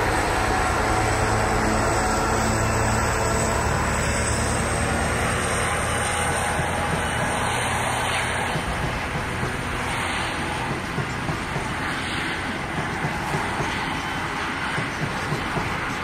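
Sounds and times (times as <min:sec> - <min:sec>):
freight wagons rolling on rails: 0:00.0 - 0:16.0
wheels clacking: 0:00.0 - 0:16.0.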